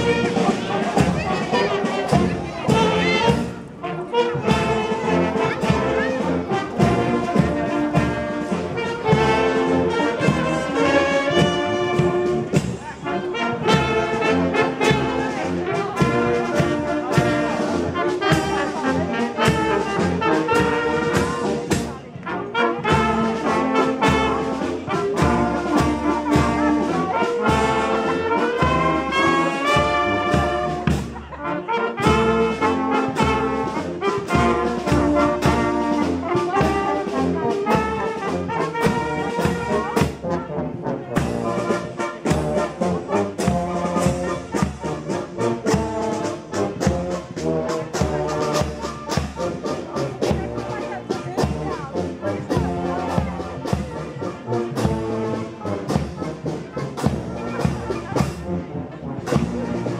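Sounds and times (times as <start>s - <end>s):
brass marching band playing: 0.0s - 59.9s.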